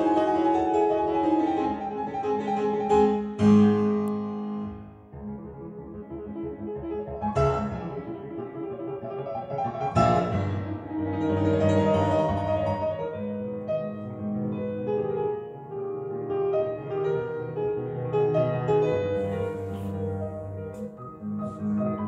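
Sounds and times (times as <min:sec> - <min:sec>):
piano music through speakers: 0:00.0 - 0:22.0.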